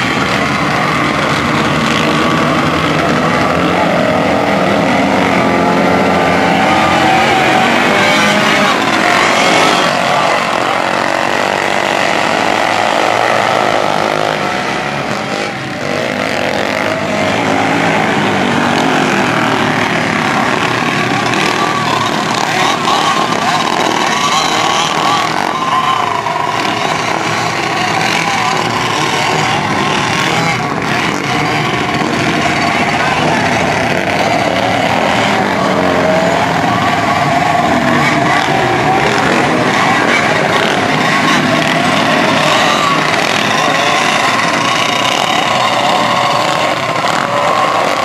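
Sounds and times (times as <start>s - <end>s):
kart engines buzzing: 0.0s - 48.0s.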